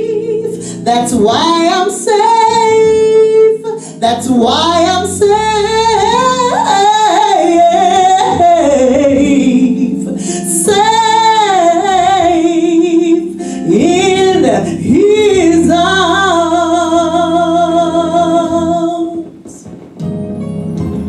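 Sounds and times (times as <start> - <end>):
woman singing gospel song: 0.0 - 19.8.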